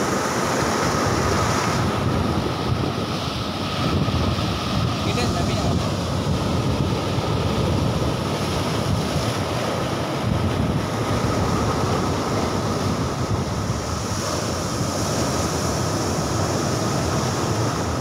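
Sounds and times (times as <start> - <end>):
surf breaking on rocky shore: 0.0 - 18.0
wind buffeting microphone: 0.0 - 18.0.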